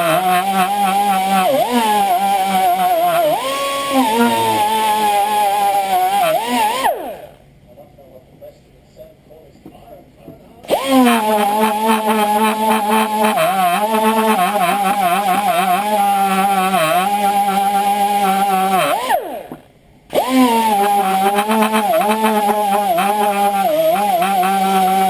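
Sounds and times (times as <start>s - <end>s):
air tool spinning wire brush: 0.0s - 7.4s, 10.7s - 25.0s.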